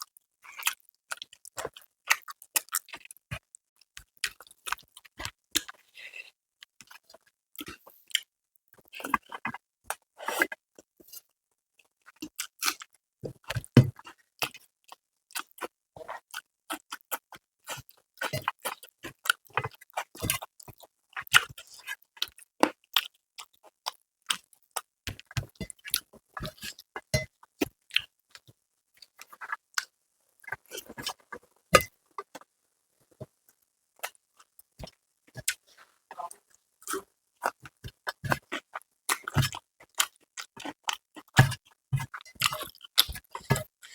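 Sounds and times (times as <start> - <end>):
person chewing food: 0.0 - 32.5, 33.2 - 43.9.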